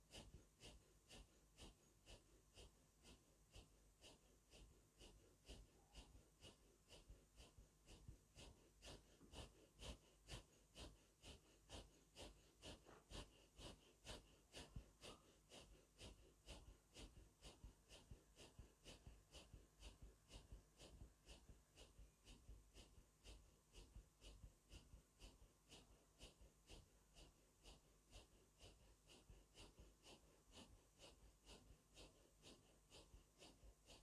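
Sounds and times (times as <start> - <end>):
rapid breathing through the nose: 0.0 - 34.0.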